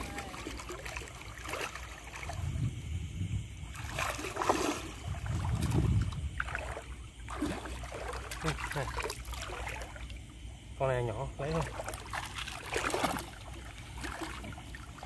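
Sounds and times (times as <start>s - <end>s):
running stream water: 0.0s - 15.0s
water sloshing from wading: 0.0s - 15.0s.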